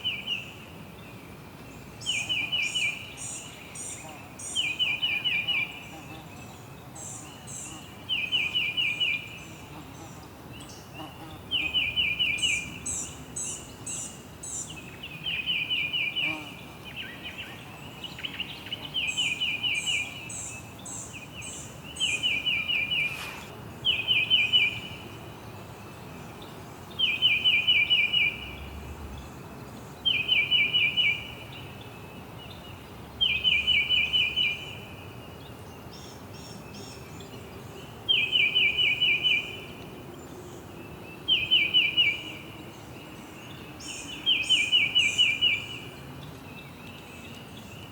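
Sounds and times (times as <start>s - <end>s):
faint steady hiss: 0.0s - 47.9s.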